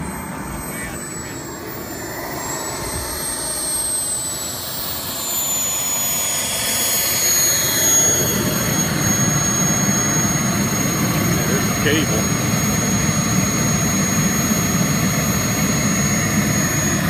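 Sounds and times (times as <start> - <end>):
model jet turbine whine and roar: 0.0 - 17.0.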